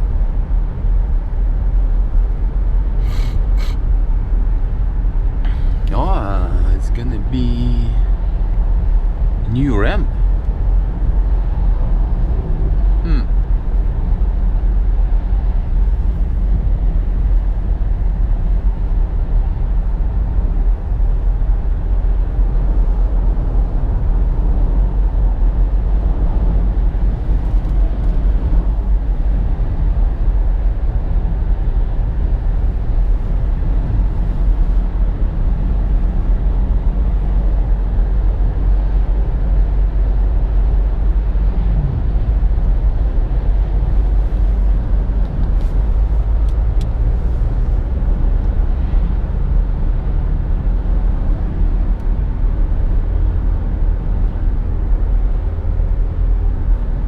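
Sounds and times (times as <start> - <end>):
car driving at highway speed: 0.0 - 57.0.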